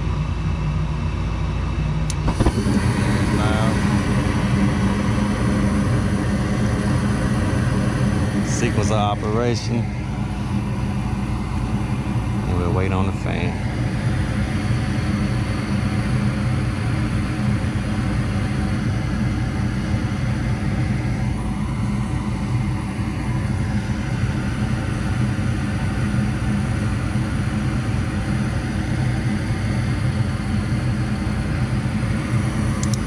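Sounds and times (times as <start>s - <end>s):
gas furnace rumbling: 0.0s - 33.0s.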